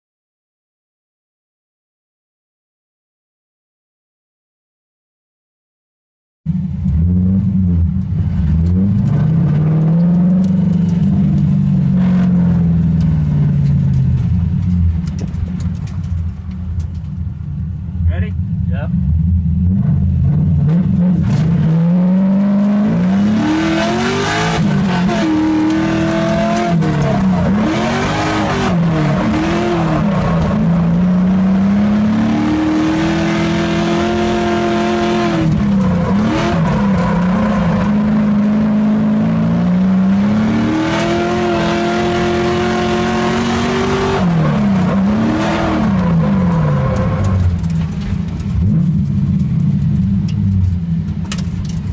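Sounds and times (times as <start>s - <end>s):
car engine revving: 6.5s - 51.9s.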